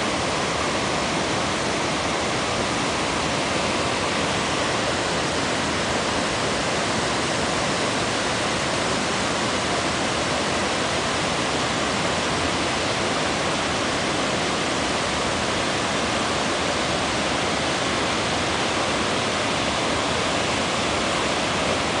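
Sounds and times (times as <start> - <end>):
water rushing over waterfall: 0.0 - 22.0.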